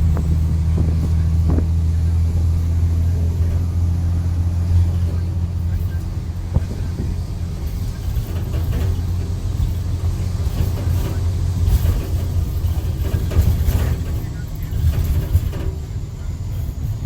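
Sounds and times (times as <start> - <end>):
diesel bus exhaust rumble: 0.0 - 17.0.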